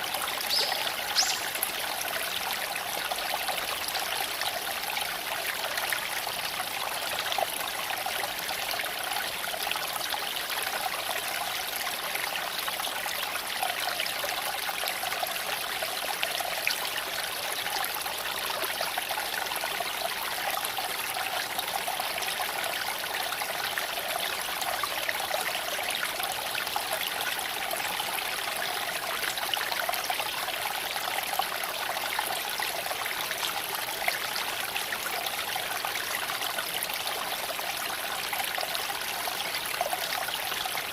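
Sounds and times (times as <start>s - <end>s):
creek water flowing over stones: 0.0s - 40.9s.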